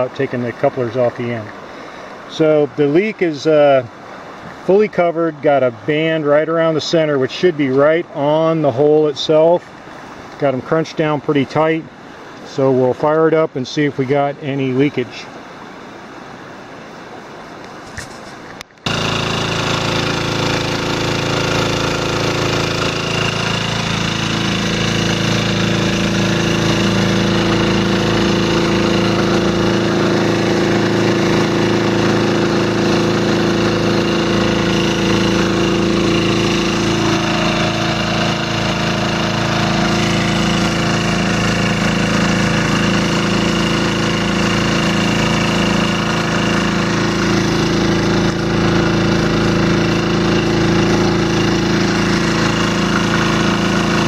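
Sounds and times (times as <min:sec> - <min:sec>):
engine and water pump running: 0:00.0 - 0:54.0.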